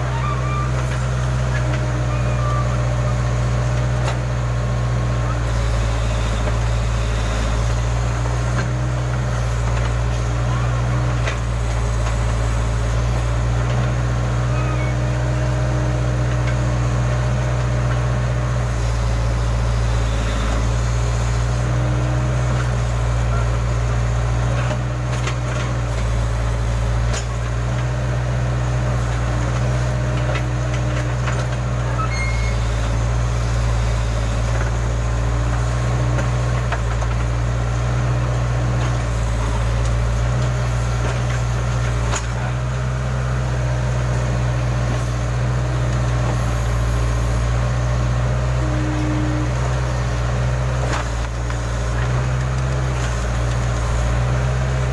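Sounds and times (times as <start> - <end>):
diesel engine digging: 0.0 - 54.9.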